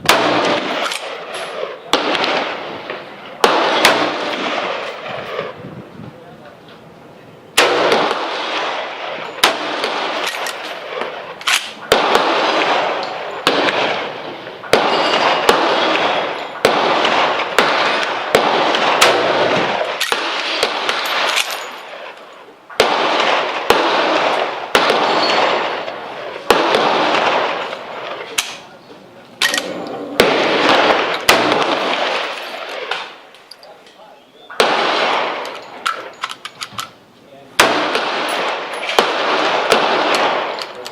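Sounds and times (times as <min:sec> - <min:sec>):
rifle shots echoing: 0:00.0 - 0:05.6, 0:07.5 - 0:33.4, 0:34.5 - 0:40.9.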